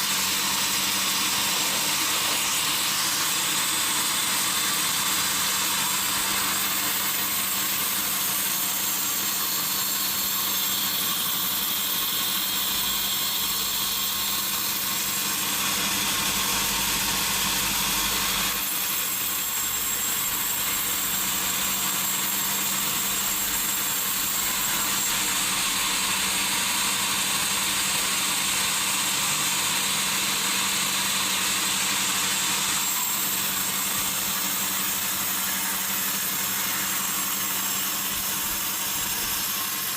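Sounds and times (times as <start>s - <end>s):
saw hissing through log: 0.0s - 39.9s.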